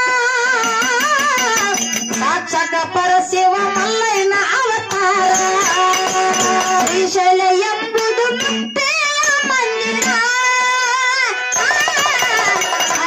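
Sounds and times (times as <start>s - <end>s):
drum accompaniment: 0.0s - 13.0s
girl singing: 0.0s - 13.0s
woman singing: 0.0s - 13.0s.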